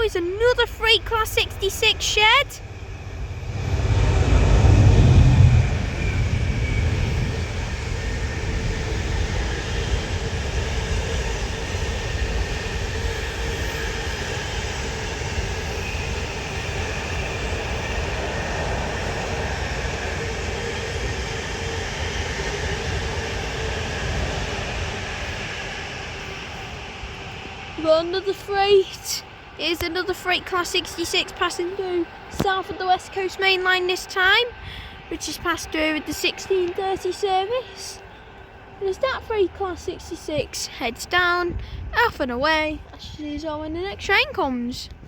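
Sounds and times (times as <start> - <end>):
diesel locomotive rumble: 0.0 - 45.0.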